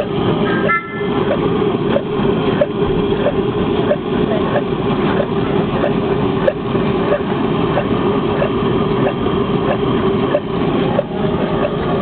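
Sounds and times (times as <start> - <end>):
engine rumble: 0.0 - 12.0
hot air engine clacking: 0.0 - 12.0.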